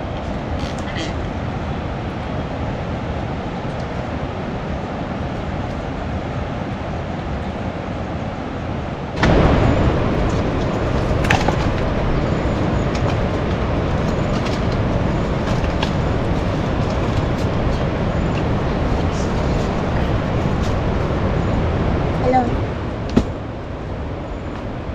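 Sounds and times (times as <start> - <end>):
vehicle engine rumble: 0.0 - 24.9.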